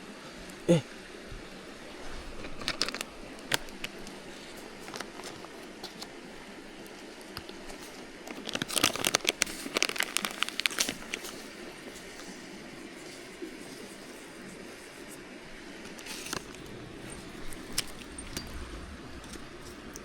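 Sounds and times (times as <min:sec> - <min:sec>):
crinkling handling noise: 0:01.4 - 0:20.0.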